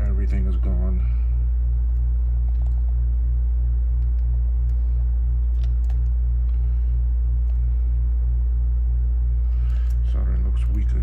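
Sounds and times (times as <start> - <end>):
throbbing electrical hum: 0.0 - 11.0.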